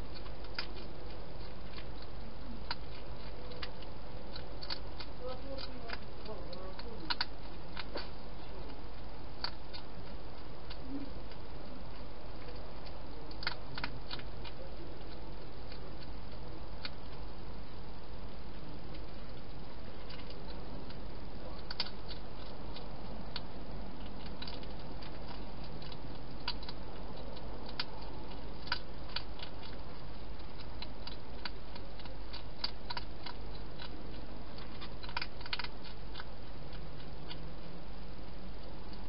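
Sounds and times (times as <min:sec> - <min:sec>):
hedgehog chewing clicks: 0:00.0 - 0:39.0
steady hiss and low hum: 0:00.0 - 0:39.0.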